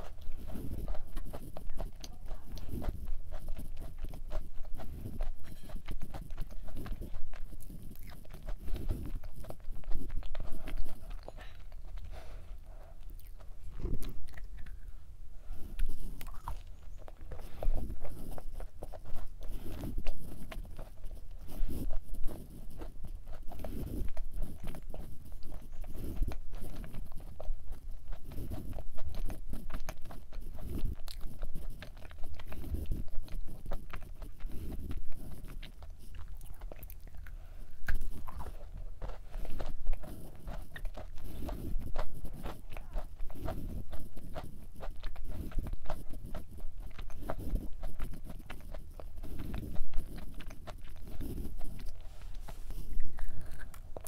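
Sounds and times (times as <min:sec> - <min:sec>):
person chewing soft cookie: 0:00.0 - 0:54.0.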